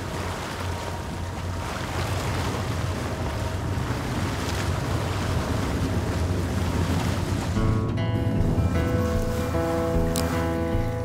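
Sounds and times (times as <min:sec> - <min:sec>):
boat motor running: 0:00.0 - 0:11.0
water noise: 0:00.0 - 0:11.0
wind: 0:00.0 - 0:11.0.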